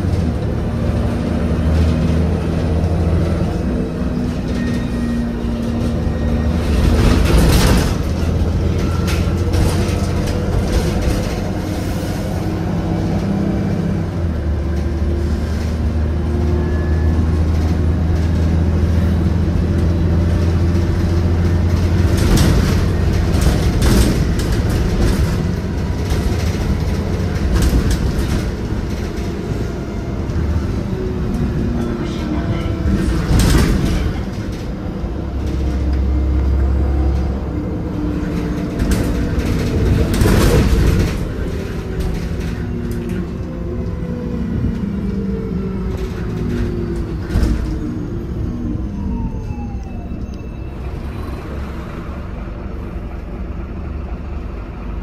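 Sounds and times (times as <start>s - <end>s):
bus diesel engine running: 0.0s - 55.0s
road noise: 0.0s - 55.0s.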